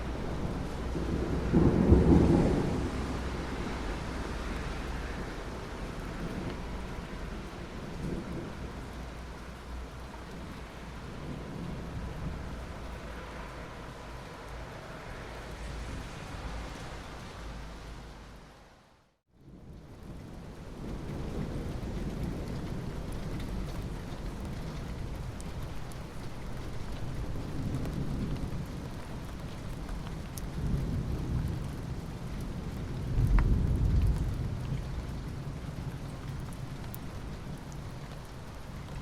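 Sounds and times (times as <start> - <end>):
thunder rumbling: 0.0 - 14.3, 20.0 - 39.0
steady rain: 0.0 - 39.0.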